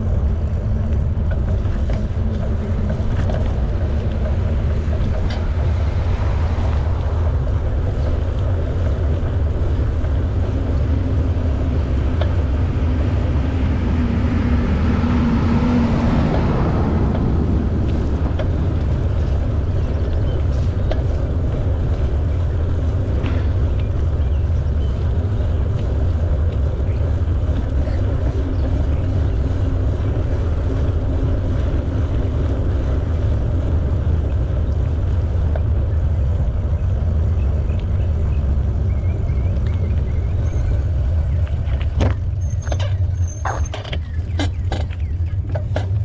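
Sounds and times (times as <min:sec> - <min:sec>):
hum: 0:00.0 - 0:46.0
wind rumble on microphone: 0:00.0 - 0:46.0.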